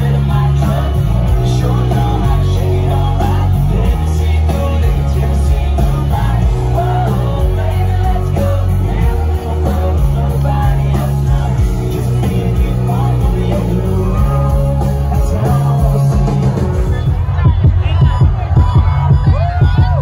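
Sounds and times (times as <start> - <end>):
live country band: 0.0 - 20.0
man singing: 0.0 - 20.0.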